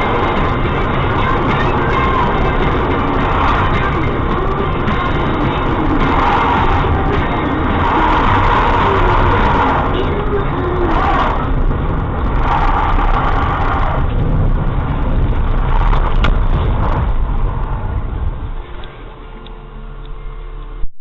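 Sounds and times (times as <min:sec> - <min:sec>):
rumbling traffic: 0:00.0 - 0:20.8.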